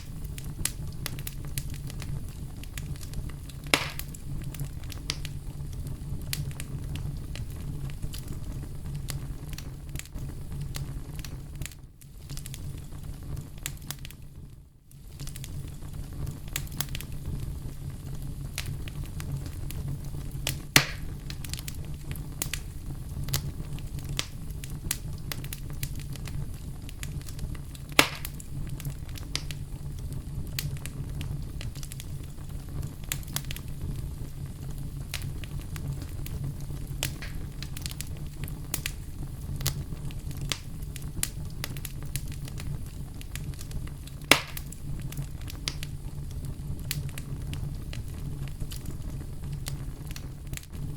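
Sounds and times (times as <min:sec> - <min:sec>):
burning wood popping: 0:00.0 - 0:14.3, 0:14.9 - 0:50.9
campfire crackling: 0:00.0 - 0:50.9.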